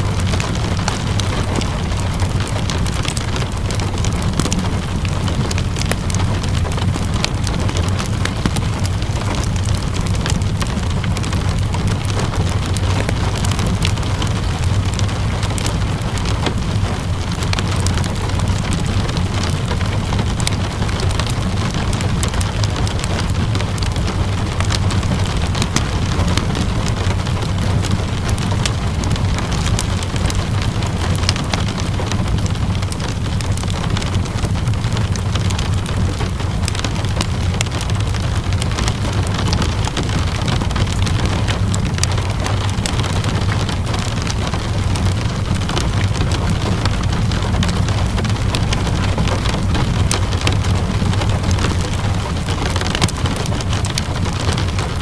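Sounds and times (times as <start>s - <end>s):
steady rainfall: 0.0s - 55.0s
wood fire crackling: 0.0s - 55.0s.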